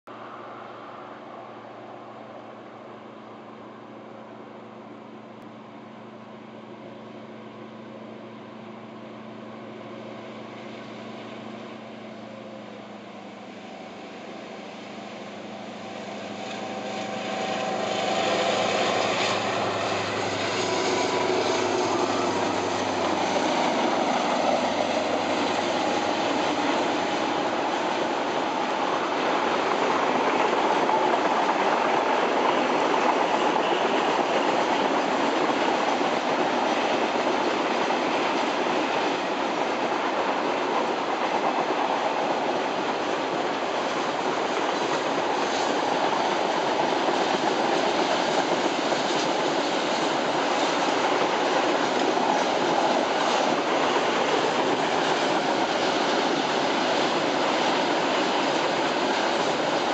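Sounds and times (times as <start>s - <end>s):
diesel locomotive engine drone: 0.1s - 59.9s.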